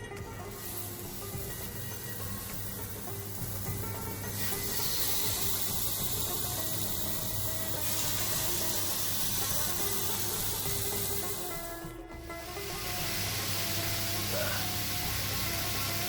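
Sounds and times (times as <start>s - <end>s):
background music: 0.0s - 16.0s
chicken sizzling on grill: 0.2s - 16.0s.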